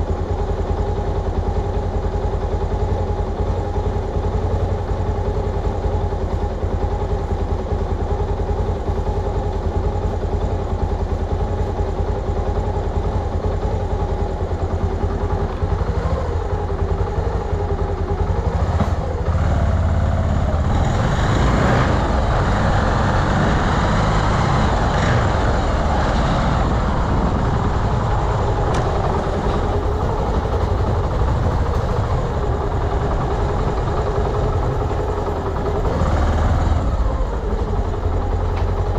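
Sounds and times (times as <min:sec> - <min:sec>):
road and wind noise: 0:00.0 - 0:38.9
scooter engine running: 0:00.0 - 0:38.9.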